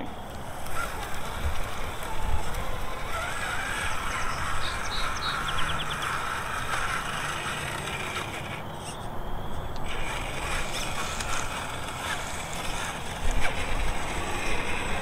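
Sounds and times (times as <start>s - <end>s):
toy truck motor whine: 0.0s - 15.0s.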